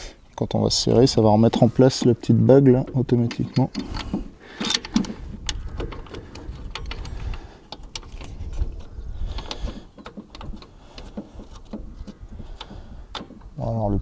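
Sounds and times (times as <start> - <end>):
metal clicks and knocks: 2.0 - 13.7.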